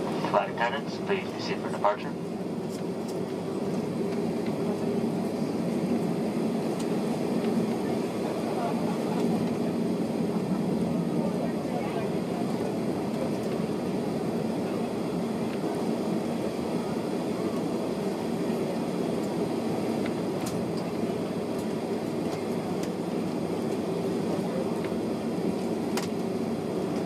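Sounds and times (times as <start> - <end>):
jet engines droning: 0.0 - 27.0.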